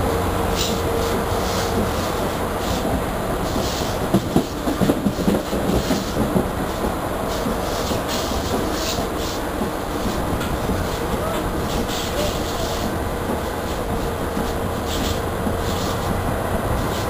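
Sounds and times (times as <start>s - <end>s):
train rolling noise: 0.0s - 17.0s
train wheels clattering: 0.5s - 17.0s.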